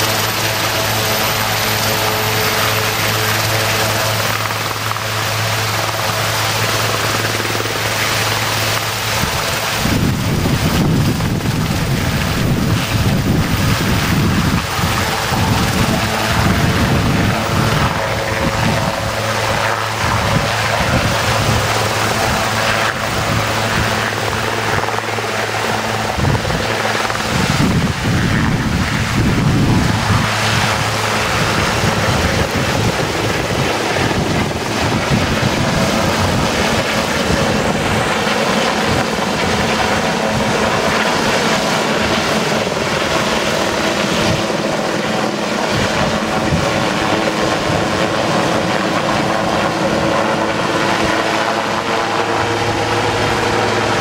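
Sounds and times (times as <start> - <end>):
helicopter rotor beating: 0.0 - 54.0.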